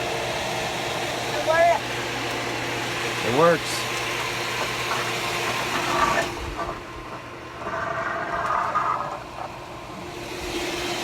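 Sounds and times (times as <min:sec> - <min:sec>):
pool pump motor humming: 0:00.0 - 0:11.0.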